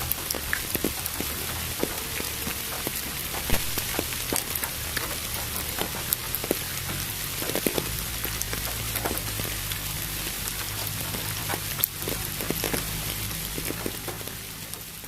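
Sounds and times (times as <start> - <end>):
rain hiss: 0.0 - 15.0
raindrops tapping on a surface: 0.0 - 15.0.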